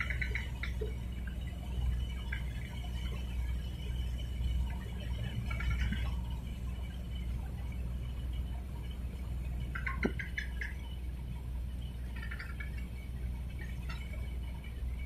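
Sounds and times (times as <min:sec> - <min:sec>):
low steady rumble: 0:00.0 - 0:15.0
water lapping: 0:00.0 - 0:15.0.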